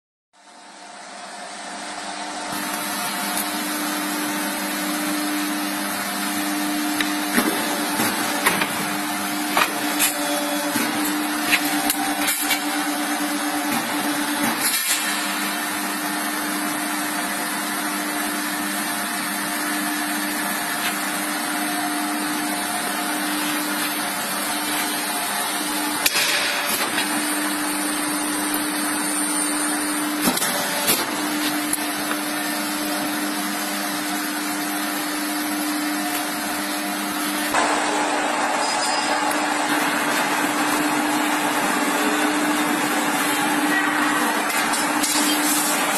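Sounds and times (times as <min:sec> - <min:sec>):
machine motor hum with hiss: 0:02.4 - 0:45.9.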